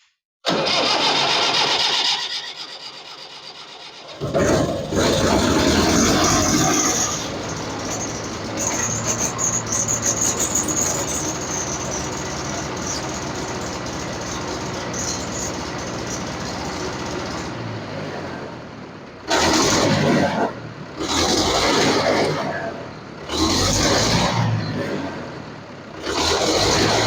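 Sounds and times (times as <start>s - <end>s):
tractor diesel engine running: 0.5s - 27.0s.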